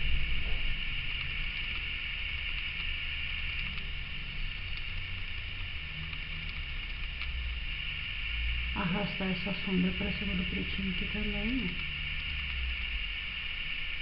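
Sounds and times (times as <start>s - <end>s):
low hum: 0.0s - 14.0s
steady hiss: 0.0s - 14.0s.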